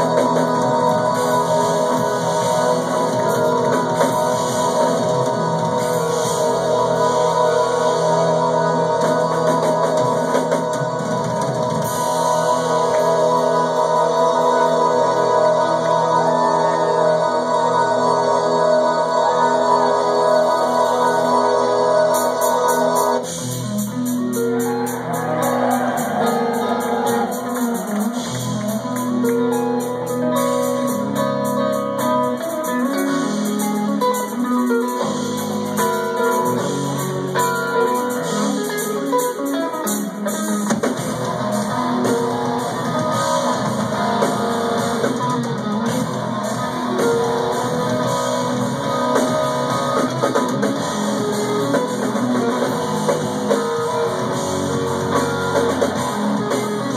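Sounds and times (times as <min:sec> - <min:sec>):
drums: 0:00.0 - 0:56.9
electric guitars: 0:00.0 - 0:56.9.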